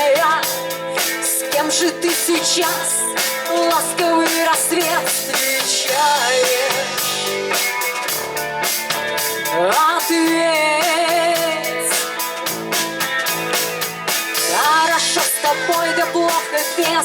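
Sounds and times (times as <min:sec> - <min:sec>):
person singing: 0:00.0 - 0:08.1, 0:09.2 - 0:17.0
bass and guitar: 0:00.0 - 0:17.0
drum kit beat: 0:00.0 - 0:17.0.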